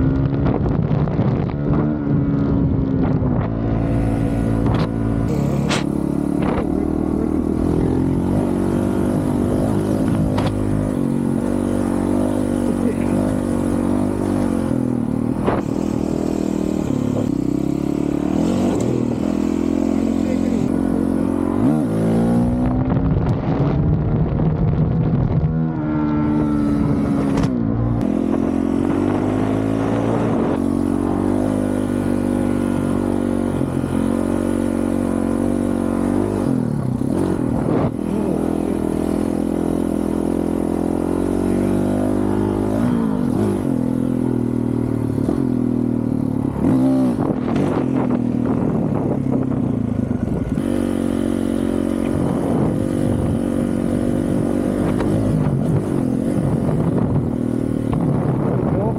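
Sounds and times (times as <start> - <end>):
motorcycle engine revving and shifting: 0.0 - 58.9.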